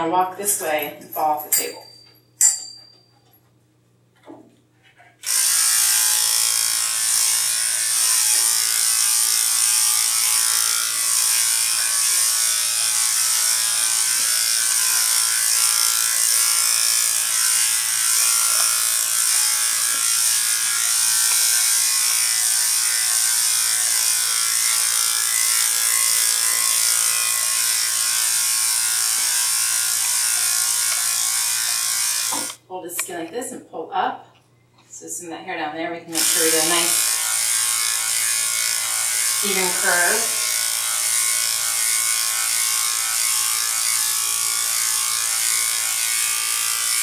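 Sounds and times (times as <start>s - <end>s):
electric clipper buzzing: 5.2s - 33.1s, 36.1s - 47.0s.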